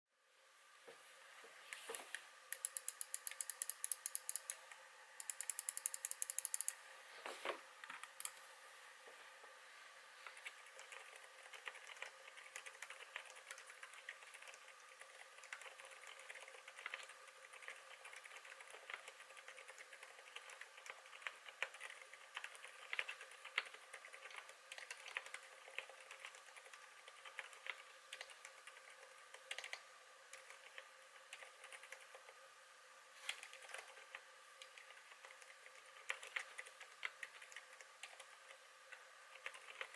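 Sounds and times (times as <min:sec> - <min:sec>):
quiet keyboard keystrokes: 0:01.8 - 0:04.6, 0:05.2 - 0:06.8, 0:10.2 - 0:32.4, 0:33.3 - 0:39.9
rapid keyboard clicking: 0:02.5 - 0:04.6, 0:05.2 - 0:06.8, 0:10.3 - 0:32.4, 0:33.4 - 0:39.9.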